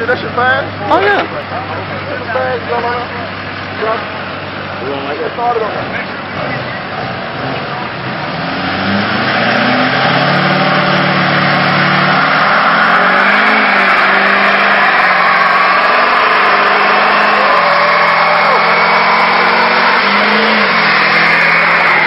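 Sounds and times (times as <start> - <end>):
tires spinning on pavement: 0.0 - 22.0
truck engine revving hard: 0.0 - 22.0.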